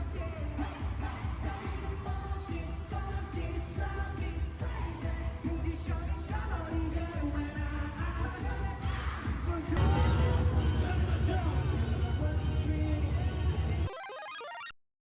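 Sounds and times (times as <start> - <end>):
heavy bass beat: 0.0 - 13.9
pop song with sung vocals: 0.0 - 13.9.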